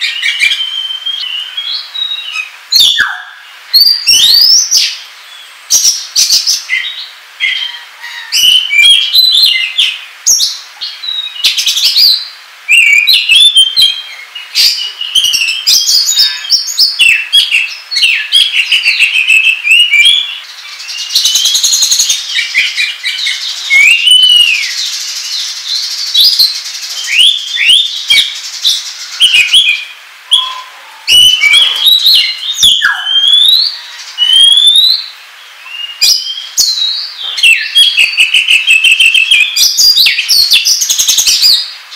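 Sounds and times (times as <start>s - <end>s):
magpie-robin singing: 0.0s - 5.0s, 5.8s - 41.7s.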